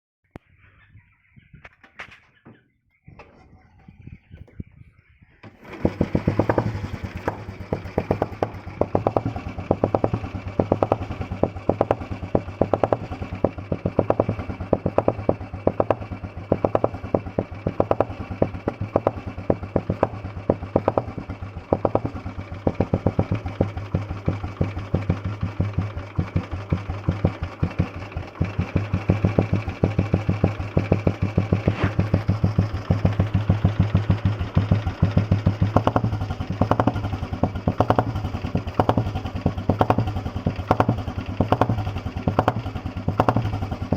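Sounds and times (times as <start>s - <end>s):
motorcycle engine thumping idle: 5.4s - 43.9s.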